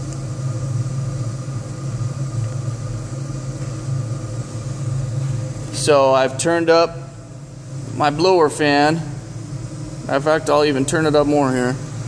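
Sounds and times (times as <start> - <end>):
furnace burner and blower humming: 0.0 - 12.0.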